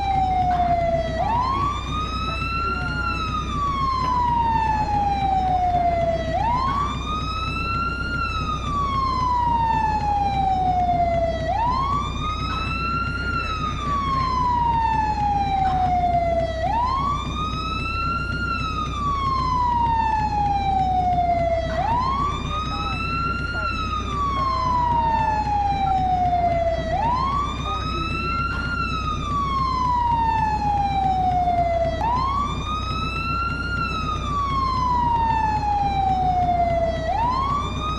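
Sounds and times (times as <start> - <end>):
fire truck siren wailing: 0.0 - 37.9
steady low rumble: 0.0 - 37.9.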